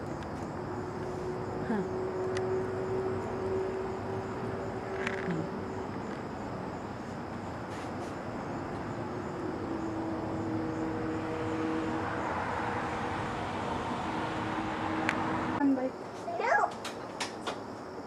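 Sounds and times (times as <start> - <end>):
distant engine drone: 0.0 - 17.4.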